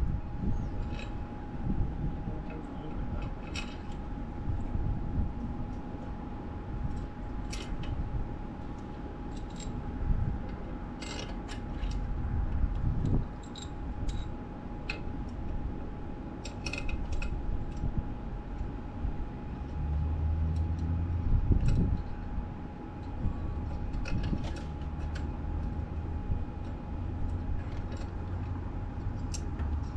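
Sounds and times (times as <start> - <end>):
low background rumble: 0.0 - 29.9.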